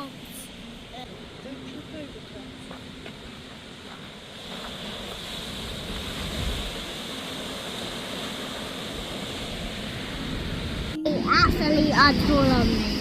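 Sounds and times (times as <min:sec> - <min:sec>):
sea surf rushing: 0:00.0 - 0:13.0
wind buffeting microphone: 0:00.9 - 0:13.0.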